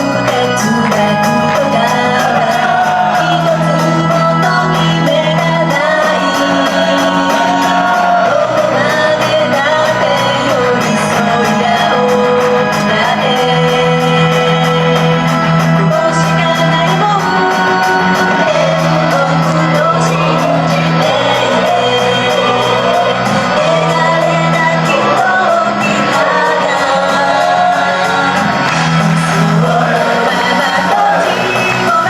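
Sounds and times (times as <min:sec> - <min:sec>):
pop song over loudspeakers: 0:00.0 - 0:32.0
woman singing: 0:00.0 - 0:32.0
audience shouting and whooping: 0:00.9 - 0:13.3, 0:16.9 - 0:32.0.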